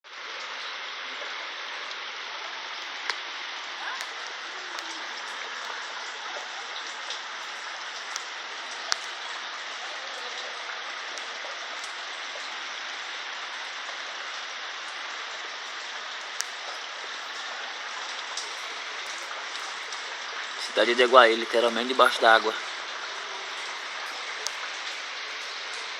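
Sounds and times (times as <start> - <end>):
floodwater running along street: 0.0 - 25.9
heavy rain: 0.0 - 25.9.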